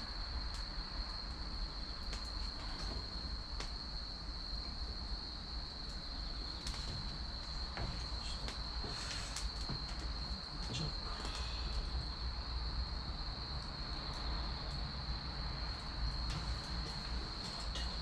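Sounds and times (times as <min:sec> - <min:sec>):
wood fire popping and crackling: 0:00.0 - 0:18.0.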